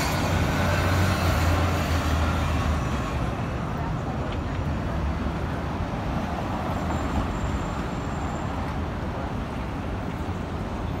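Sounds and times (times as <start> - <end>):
cars passing on busy street: 0.0 - 11.0.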